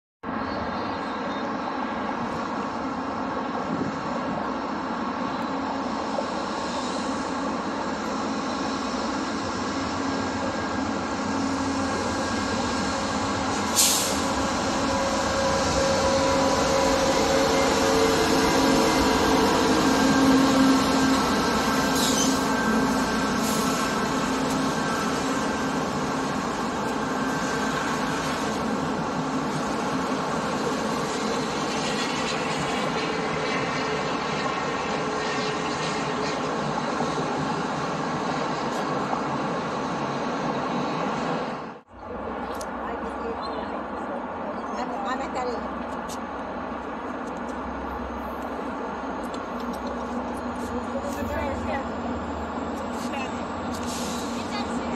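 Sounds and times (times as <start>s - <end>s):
locomotive engine drone: 0.2s - 54.9s
train wheels rumbling on rails: 0.7s - 54.9s.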